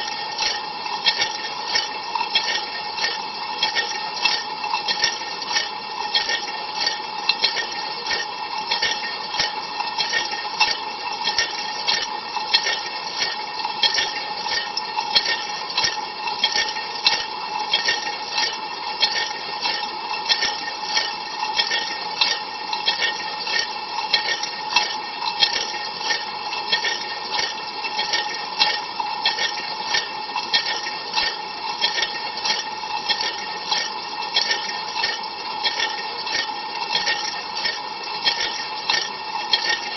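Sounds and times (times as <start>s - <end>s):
pump whine: 0.0s - 39.9s
water spraying inside dishwasher: 0.0s - 39.9s.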